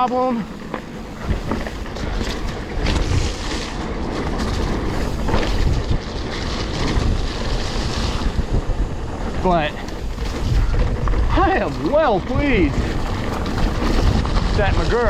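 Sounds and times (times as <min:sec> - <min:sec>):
bike knocks and rattles: 0:00.0 - 0:15.0
tyre and ground rumble: 0:00.0 - 0:15.0
wind rushing over microphone: 0:00.0 - 0:15.0.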